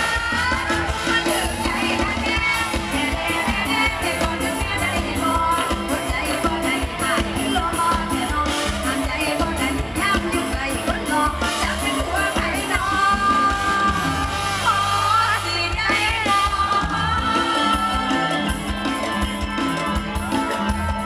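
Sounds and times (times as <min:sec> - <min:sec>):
woman singing into microphone: 0:00.0 - 0:18.8
band with drums and bass: 0:00.0 - 0:21.0.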